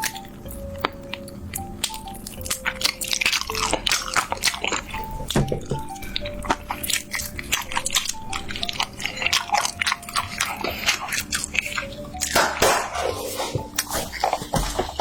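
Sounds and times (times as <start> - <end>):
chewing crunchy fried chicken: 0.0 - 15.0
soft background music: 0.0 - 15.0.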